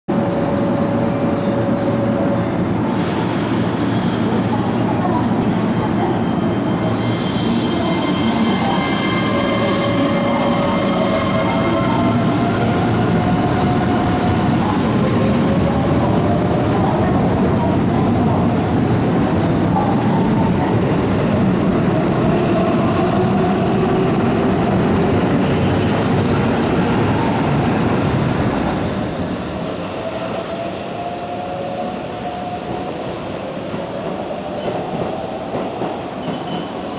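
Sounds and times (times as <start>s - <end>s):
train wheels rumbling on rails: 0.1s - 36.9s.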